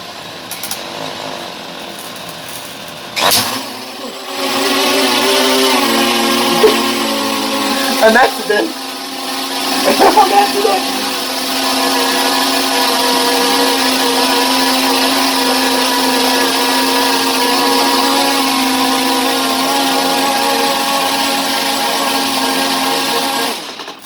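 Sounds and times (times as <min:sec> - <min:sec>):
drone motors buzzing whine: 0:00.0 - 0:24.0.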